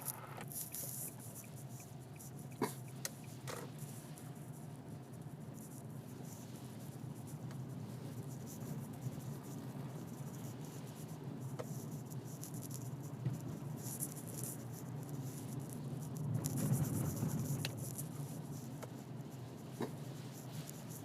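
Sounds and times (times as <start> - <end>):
car interior rumble: 0.0 - 21.0
faint scratchy patter: 0.0 - 21.0.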